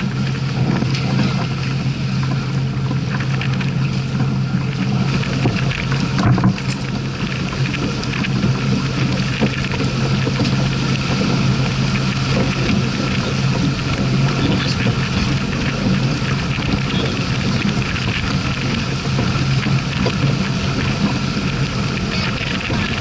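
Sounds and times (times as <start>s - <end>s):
low rumble: 0.0s - 23.0s
water rushing along hull: 0.0s - 23.0s
wind: 0.0s - 23.0s.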